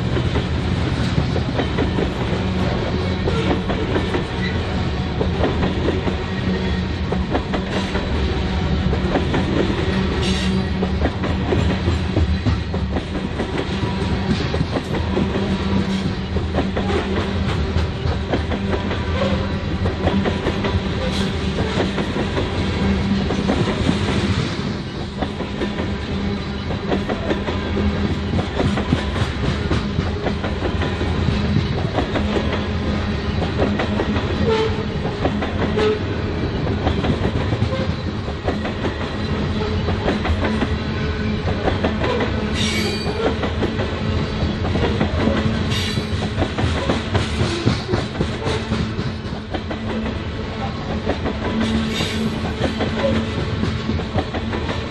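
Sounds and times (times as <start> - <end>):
freight train rolling past: 0.0 - 54.9
wheels clickety-clack on rails: 0.0 - 54.9.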